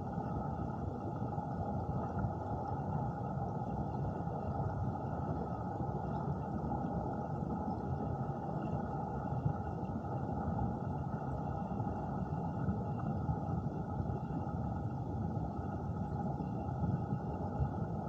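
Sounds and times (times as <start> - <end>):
muffled underwater stream rush: 0.0 - 18.0.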